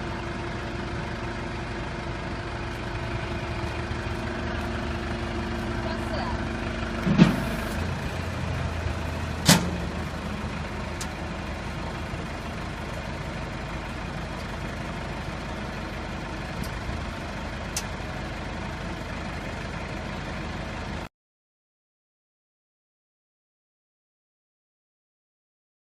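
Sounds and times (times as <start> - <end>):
truck engine idling: 0.0 - 21.1.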